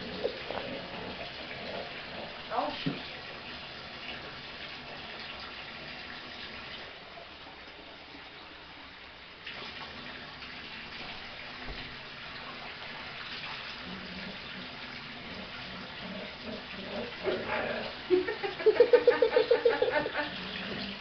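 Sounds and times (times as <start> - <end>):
water running into bathtub: 0.0 - 21.0.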